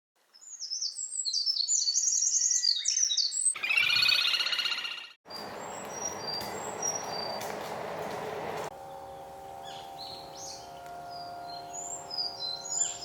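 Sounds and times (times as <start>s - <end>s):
wren singing: 0.5s - 7.5s, 8.8s - 13.0s.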